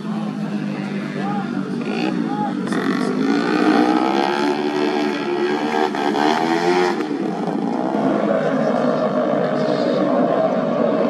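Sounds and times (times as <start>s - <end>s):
scooter engines revving: 0.0s - 11.0s.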